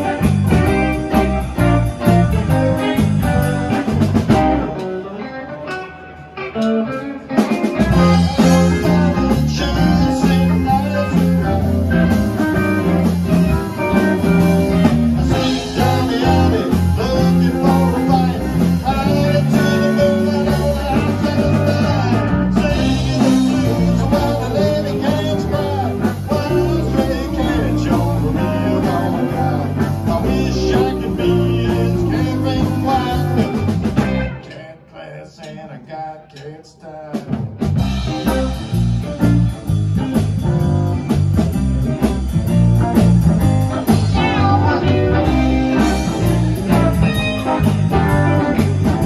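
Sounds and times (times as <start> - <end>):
rockabilly band instrumental: 0.0 - 34.9, 37.1 - 49.0.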